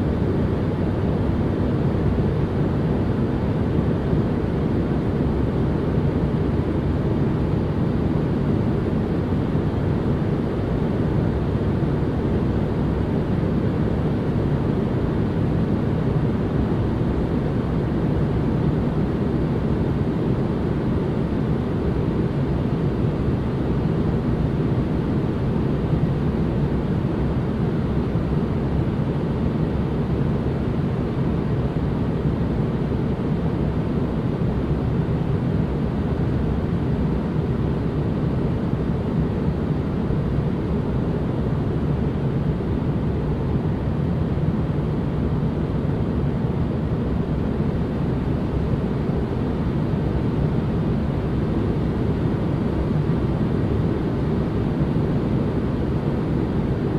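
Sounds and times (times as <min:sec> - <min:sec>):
steady white noise: 0:00.0 - 0:56.9.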